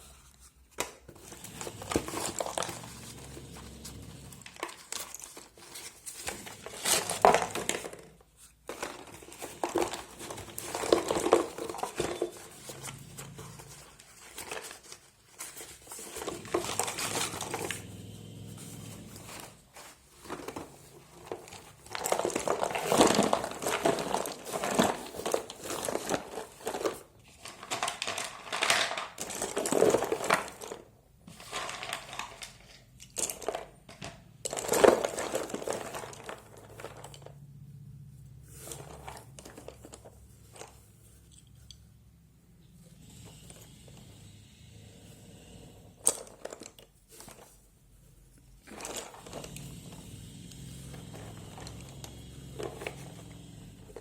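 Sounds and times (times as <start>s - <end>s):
wrapping crinkling and rustling: 0.0s - 37.4s, 38.4s - 42.0s, 45.9s - 54.0s.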